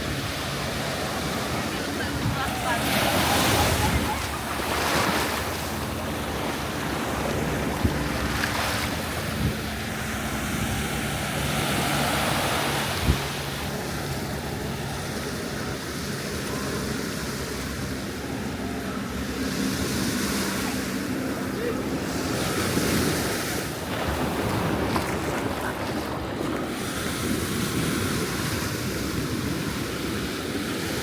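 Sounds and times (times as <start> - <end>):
wind buffeting microphone: 0.0 - 16.4, 20.6 - 31.0
surf washing on beach: 0.0 - 31.0.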